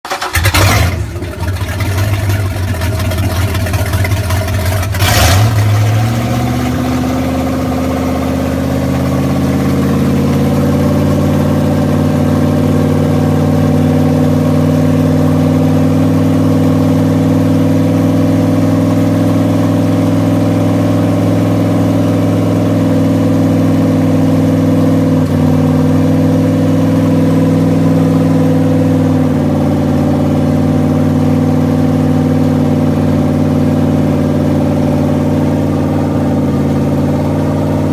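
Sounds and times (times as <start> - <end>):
boat engine starting and idling: 0.0 - 37.9.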